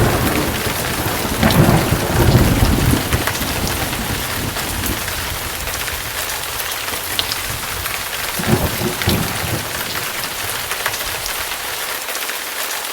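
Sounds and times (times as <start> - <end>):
low rumble of thunder: 0.0 - 11.7
heavy rain hiss: 0.0 - 12.9.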